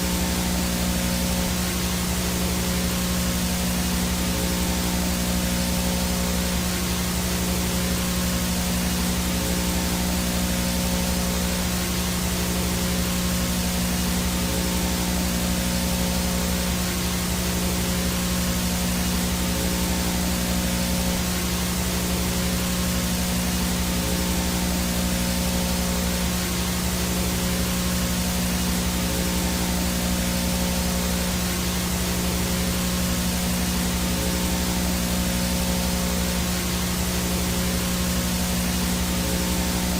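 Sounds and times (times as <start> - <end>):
low buzz: 0.0 - 39.9
static hiss: 0.0 - 39.9.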